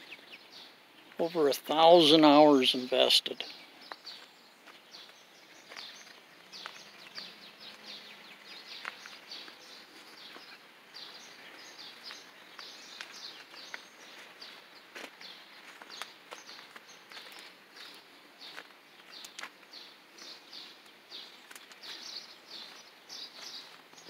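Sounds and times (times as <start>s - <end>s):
birds chirping faintly: 0.0s - 24.0s
outdoor background noise: 0.0s - 24.0s.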